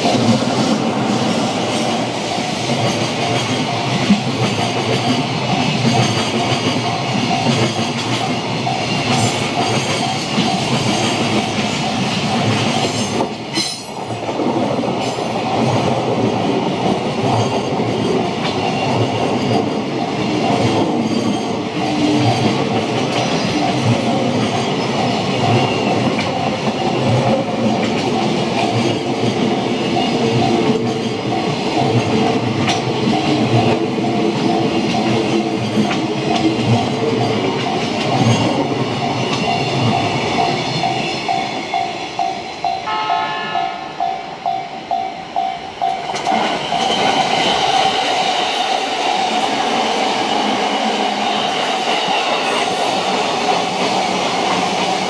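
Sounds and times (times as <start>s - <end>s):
crossing warning bell dinging: 0.0s - 14.3s, 16.3s - 55.0s
train wheels clattering on rails: 0.0s - 55.0s.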